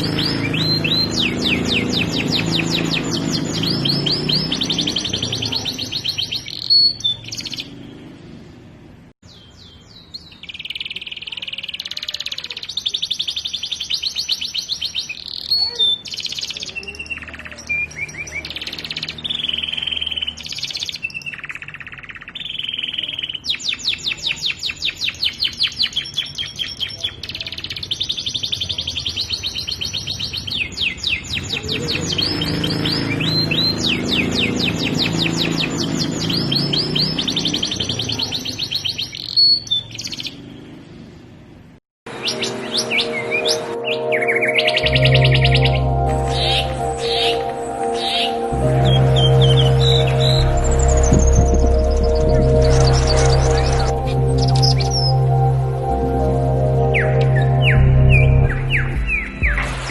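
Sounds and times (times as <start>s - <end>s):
canary singing trills: 0.0s - 8.1s, 9.2s - 40.8s, 42.1s - 59.6s.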